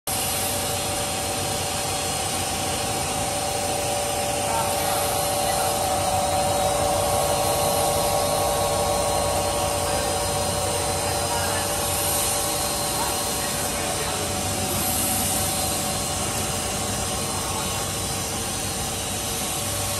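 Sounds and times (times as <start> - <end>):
blower running: 0.1 - 19.9
machinery motors humming and whining: 0.1 - 19.9.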